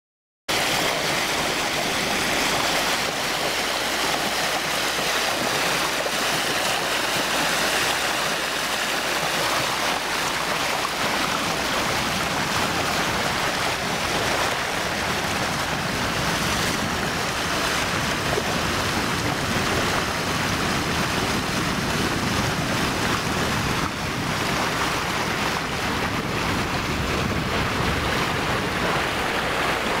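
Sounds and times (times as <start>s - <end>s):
boat engine humming: 0.5s - 30.0s
water rushing along hull: 0.5s - 30.0s
wind on microphone: 0.5s - 30.0s.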